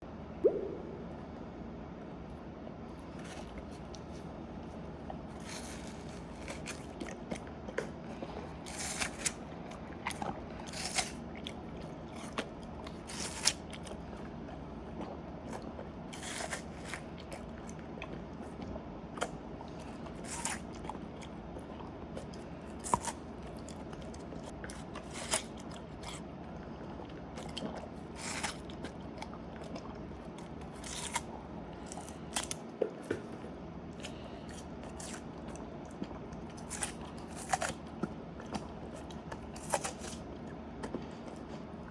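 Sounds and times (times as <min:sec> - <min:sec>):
dog chewing watermelon: 0:02.9 - 0:41.9.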